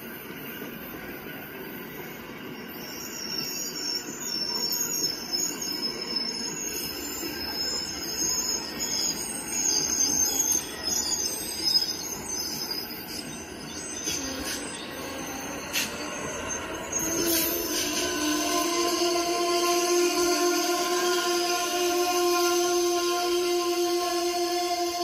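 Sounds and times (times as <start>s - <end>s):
high wavering squeal: 0.0s - 25.0s.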